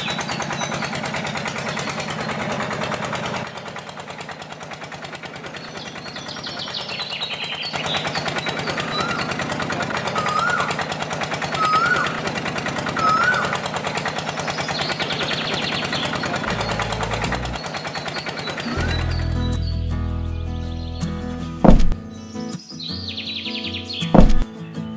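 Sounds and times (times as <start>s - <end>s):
small engine knocking: 0.0s - 19.7s, 21.6s - 22.0s, 24.2s - 24.5s.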